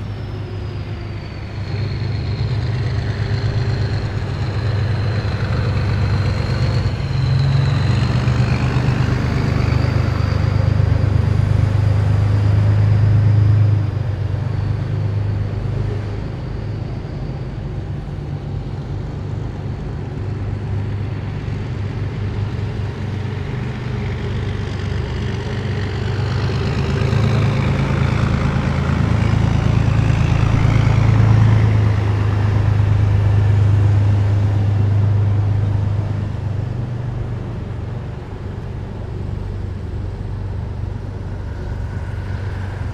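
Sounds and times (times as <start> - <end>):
heavy vehicle engines droning: 0.0 - 42.9.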